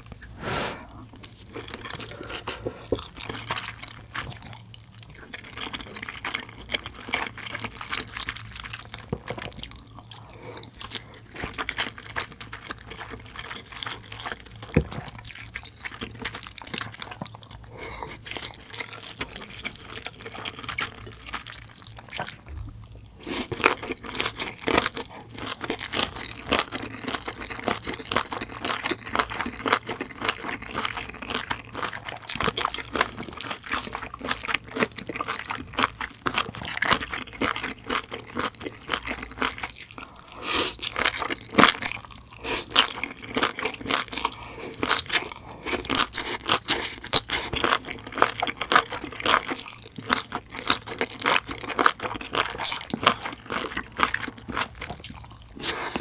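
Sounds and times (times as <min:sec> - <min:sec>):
crunchy wet chewing: 0:00.9 - 0:56.0.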